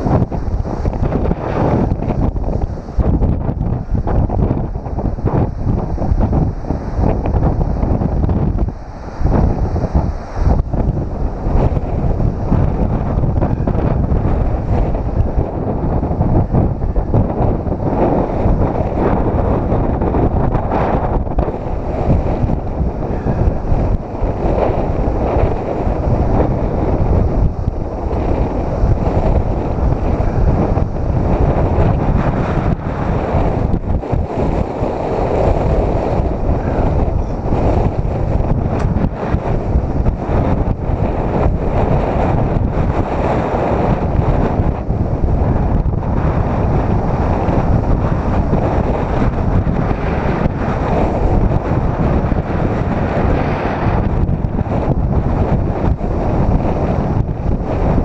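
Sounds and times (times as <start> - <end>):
ocean surf breaking on rocks: 0.0 - 58.0
wind buffeting microphone: 0.0 - 58.0.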